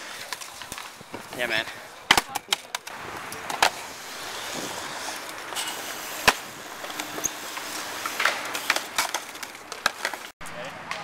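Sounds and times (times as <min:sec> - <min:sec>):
skateboard wheels rolling on concrete: 0:00.0 - 0:11.0
skateboard clacking: 0:02.0 - 0:11.0.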